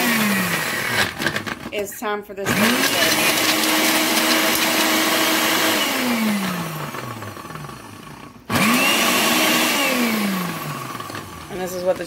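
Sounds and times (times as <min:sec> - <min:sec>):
blender motor running: 0:00.0 - 0:01.8, 0:02.4 - 0:12.0.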